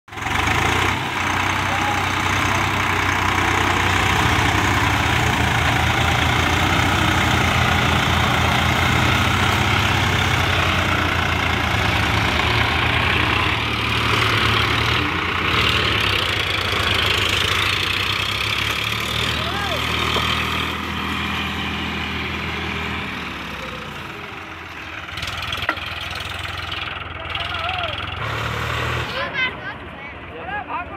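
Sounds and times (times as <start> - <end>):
tractor engines running under load: 0.1 - 30.9.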